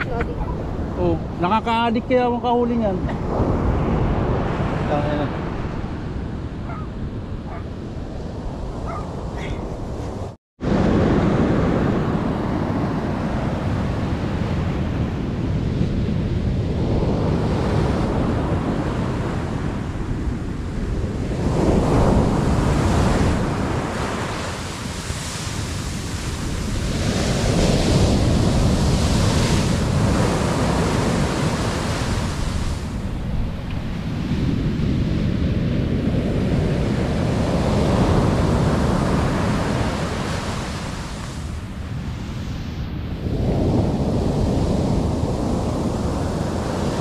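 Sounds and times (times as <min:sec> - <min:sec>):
ocean surf on sand beach: 0:00.0 - 0:47.0
wind buffeting microphone: 0:00.0 - 0:47.0.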